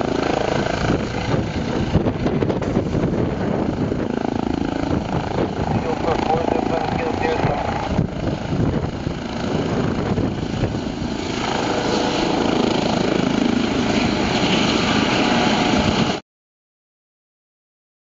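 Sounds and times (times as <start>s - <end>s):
helicopter hovering: 0.0s - 16.2s.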